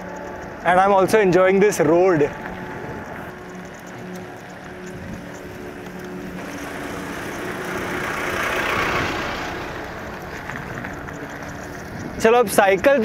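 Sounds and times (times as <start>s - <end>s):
tractor diesel engine passing: 0.0s - 13.0s.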